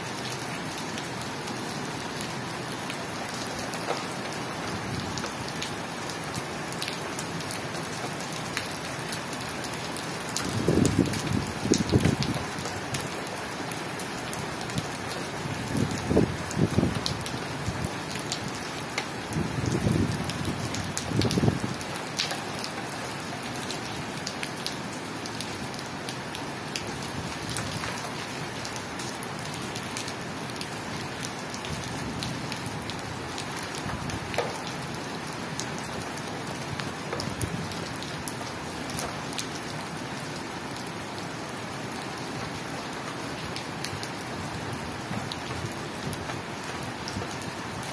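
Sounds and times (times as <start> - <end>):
rain on a tiled roof: 0.0 - 47.9.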